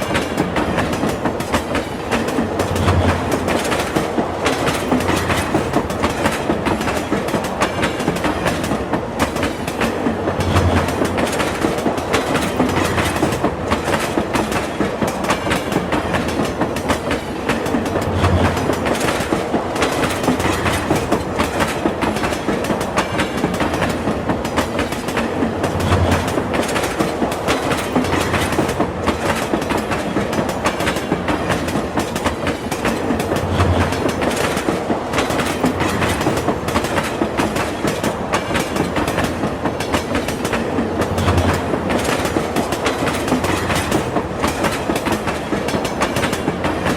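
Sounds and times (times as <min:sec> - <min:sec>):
train wheels clacking on rails: 0:00.0 - 0:46.9.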